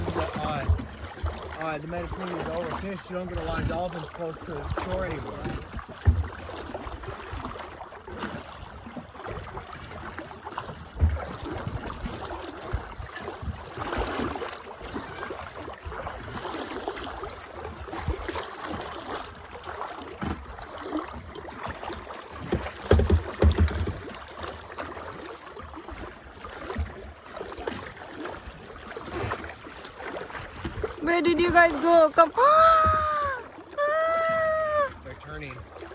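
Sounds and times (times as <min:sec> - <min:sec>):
water sloshing and splashing: 0:00.0 - 0:35.9.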